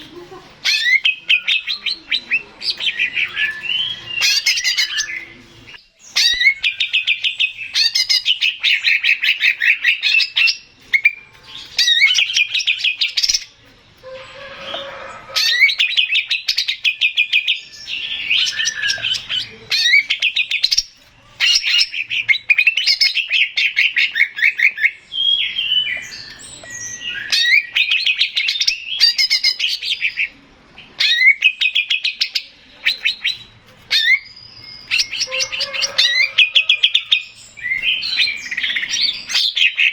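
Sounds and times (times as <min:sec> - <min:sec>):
bird singing high chattering notes: 0:00.0 - 0:39.9.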